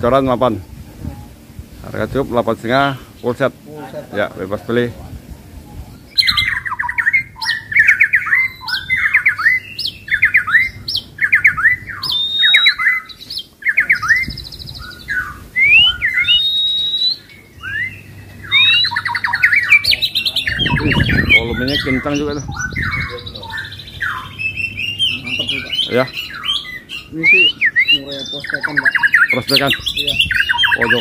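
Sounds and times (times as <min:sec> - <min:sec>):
caged songbirds singing: 0:00.0 - 0:31.0.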